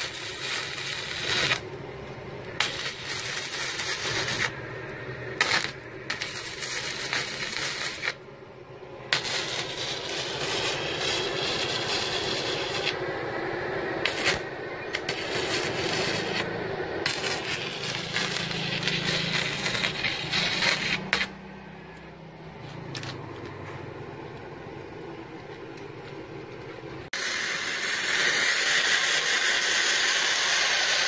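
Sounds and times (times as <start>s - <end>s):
welding arc crackling: 0.0s - 22.0s, 22.6s - 23.4s, 27.1s - 31.0s
steady hum: 0.0s - 28.2s.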